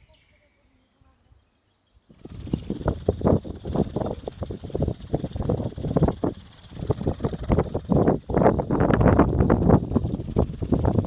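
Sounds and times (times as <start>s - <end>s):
fabric streamer fluttering: 2.1s - 11.0s
wind buffeting microphone: 2.1s - 11.0s.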